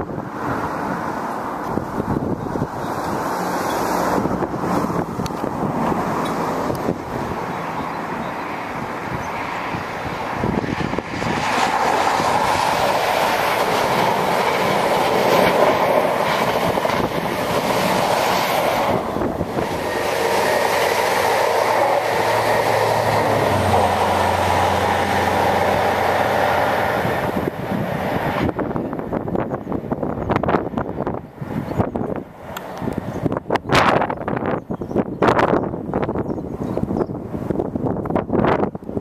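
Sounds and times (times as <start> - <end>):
train wheels on rails: 0.0 - 34.1.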